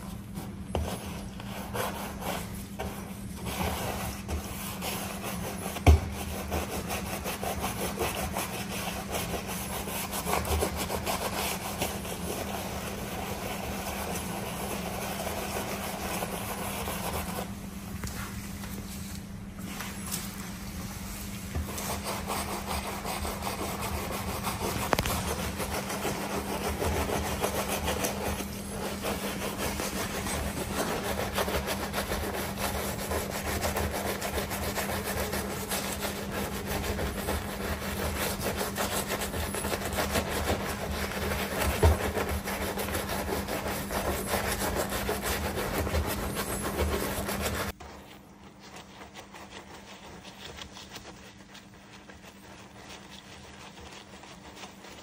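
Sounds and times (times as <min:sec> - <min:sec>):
brush scrubbing car paint: 0:00.0 - 0:55.0
steady low hum: 0:00.0 - 0:55.0.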